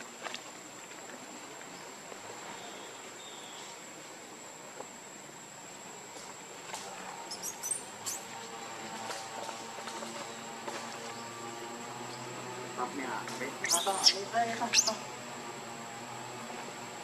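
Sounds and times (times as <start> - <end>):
high-pitched insect drone: 1.7 - 17.0.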